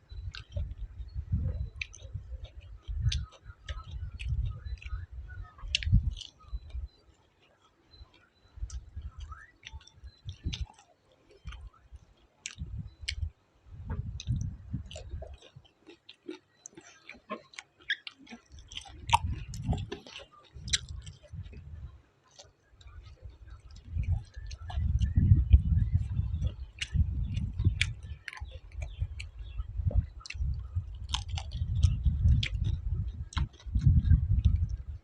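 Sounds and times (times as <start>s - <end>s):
sharp crunching clicks: 0.0s - 13.3s, 14.0s - 21.6s, 22.3s - 35.0s
person chewing food: 0.0s - 35.0s.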